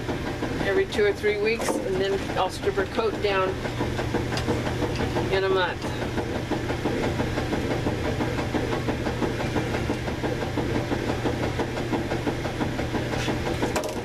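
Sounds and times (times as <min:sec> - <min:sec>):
motor humming and rattling: 0:00.0 - 0:14.0.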